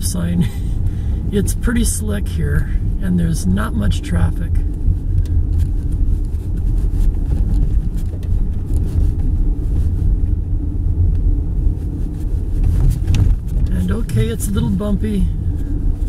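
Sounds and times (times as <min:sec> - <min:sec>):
car driving on snow: 0:00.0 - 0:16.0.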